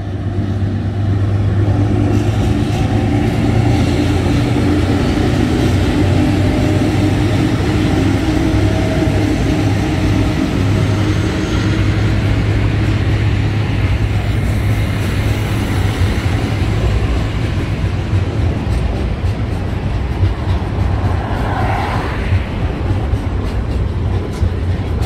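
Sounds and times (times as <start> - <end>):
train wagons rumbling past: 0.0 - 25.0.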